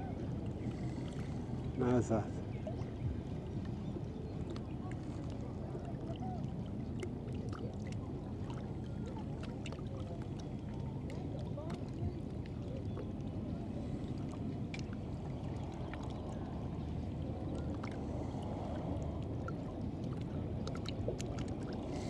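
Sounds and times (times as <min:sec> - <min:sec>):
rush of moving water: 0:00.0 - 0:22.0
ticks and drips: 0:03.1 - 0:16.9, 0:17.5 - 0:22.0.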